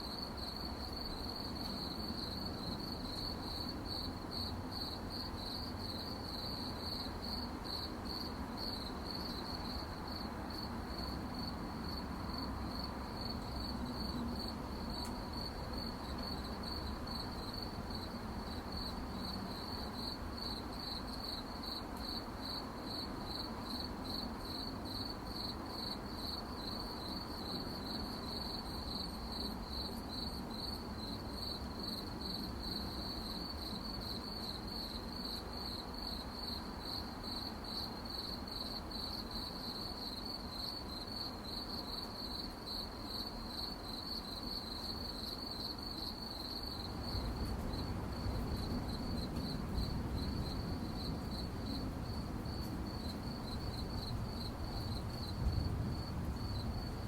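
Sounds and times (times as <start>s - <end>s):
crickets chirping: 0.0s - 57.0s
soft steady background hiss: 0.0s - 57.0s.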